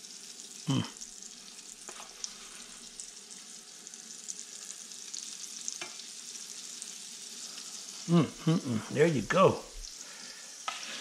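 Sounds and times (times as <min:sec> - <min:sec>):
fish frying with crackling sizzle: 0:00.0 - 0:11.0.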